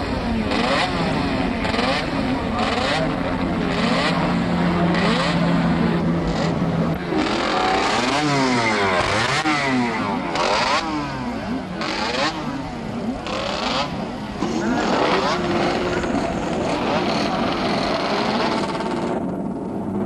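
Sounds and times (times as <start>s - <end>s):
racing motorcycles revving: 0.0s - 20.0s.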